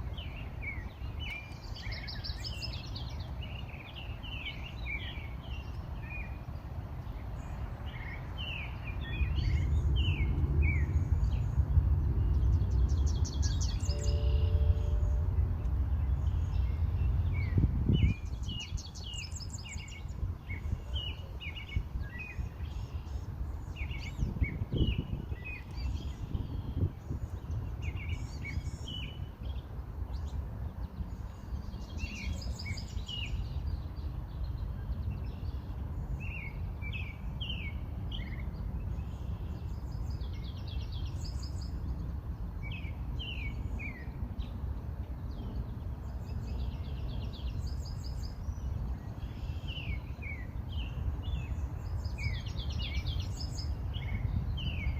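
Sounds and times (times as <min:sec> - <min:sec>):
songbirds chirping and singing: 0:00.0 - 0:54.9.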